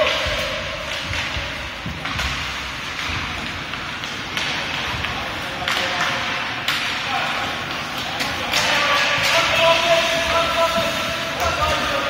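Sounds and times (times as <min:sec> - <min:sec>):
hockey sticks and puck taps: 0:00.0 - 0:12.0.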